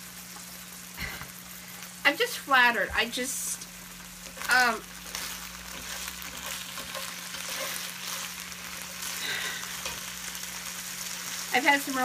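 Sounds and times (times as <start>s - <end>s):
food sizzling in a pan: 0.0s - 12.0s
low steady hum: 0.0s - 12.0s.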